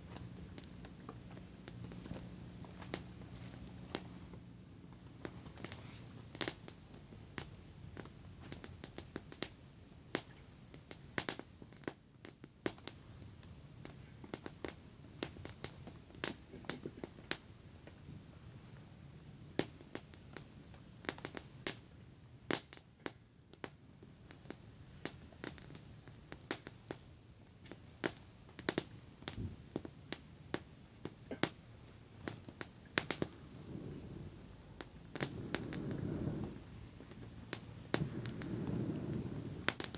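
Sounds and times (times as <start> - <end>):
campfire crackling and popping: 0.0 - 39.9
low steady hiss: 0.0 - 39.9.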